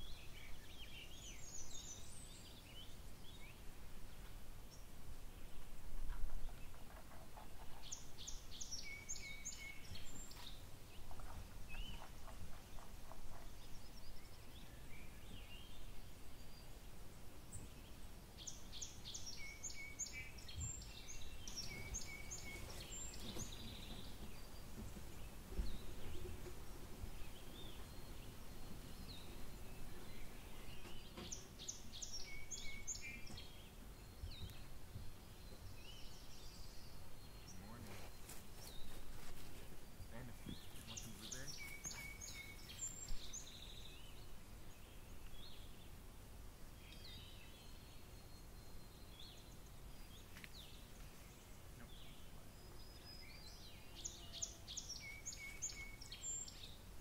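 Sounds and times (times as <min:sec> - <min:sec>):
faint outdoor background noise: 0:00.0 - 0:57.0
songbird singing: 0:00.0 - 0:57.0.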